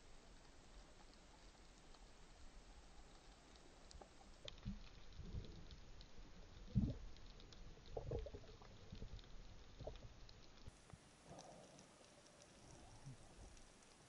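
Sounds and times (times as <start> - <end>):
faint clicking: 0.1 - 14.0.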